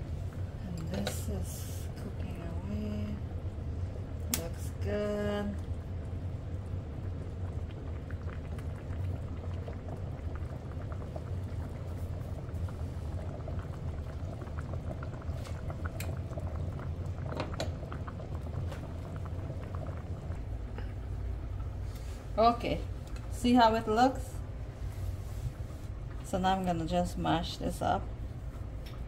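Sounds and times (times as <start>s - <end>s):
low hum: 0.0s - 29.0s
pot boiling and bubbling: 0.0s - 29.0s.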